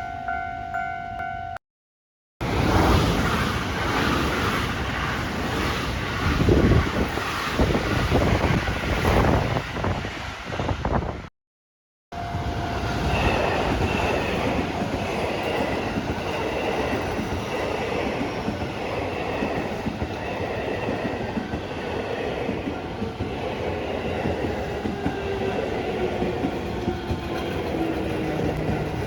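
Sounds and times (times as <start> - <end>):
train wheels rumbling on track: 2.4 - 11.2, 12.2 - 29.0.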